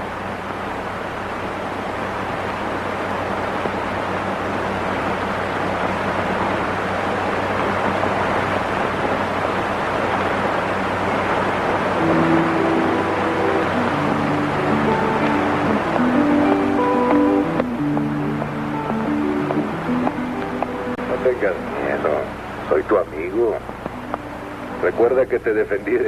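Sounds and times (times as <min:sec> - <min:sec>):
film soundtrack hiss: 0:00.0 - 0:26.0.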